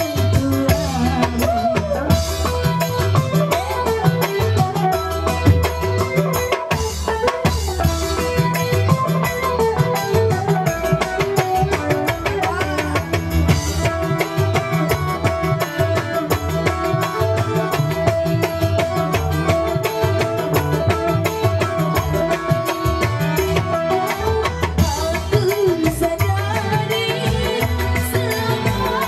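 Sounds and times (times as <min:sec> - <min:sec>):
hand drums beating: 0:00.0 - 0:29.0.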